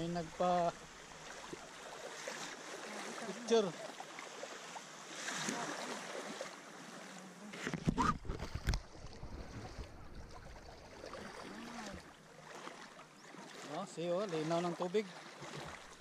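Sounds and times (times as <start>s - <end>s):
water sloshing and lapping: 0.0s - 16.0s.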